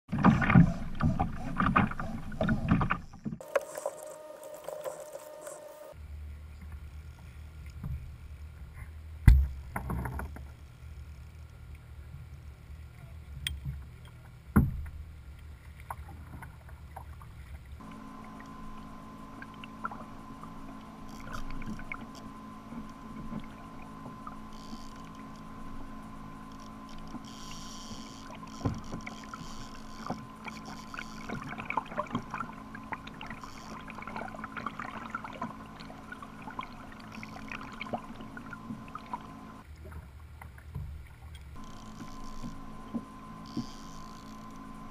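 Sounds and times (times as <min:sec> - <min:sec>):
steady low hum: 0:00.1 - 0:44.9
water lapping and dripping: 0:00.1 - 0:44.9.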